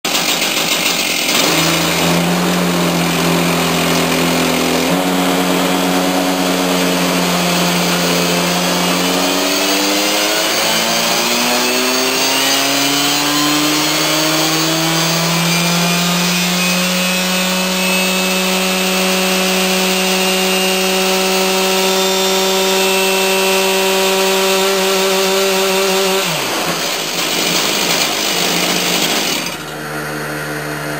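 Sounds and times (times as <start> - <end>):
chainsaw engine running: 0.1 - 30.4.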